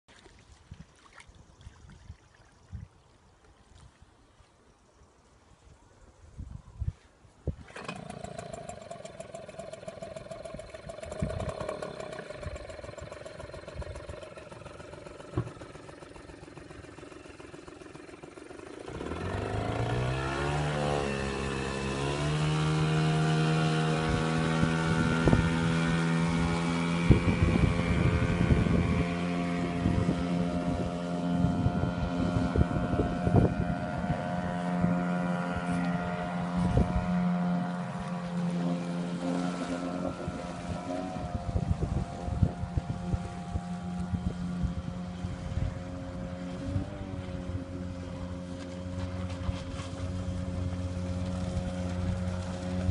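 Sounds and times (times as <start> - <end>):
knocks and water splashes: 0.1 - 4.1, 7.5 - 45.1, 45.8 - 52.9
outboard motor running: 7.4 - 52.9.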